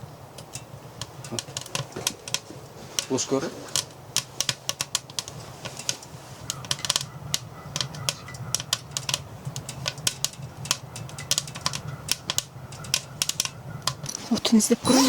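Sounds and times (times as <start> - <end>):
sharp crackles and ticks: 0.3 - 14.8.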